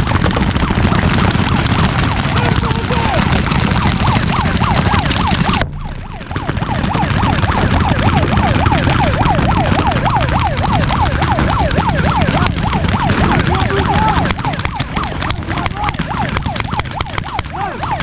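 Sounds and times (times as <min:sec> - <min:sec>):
paintball markers firing: 0:00.0 - 0:18.0
siren wailing in a fast yelp: 0:00.0 - 0:18.0.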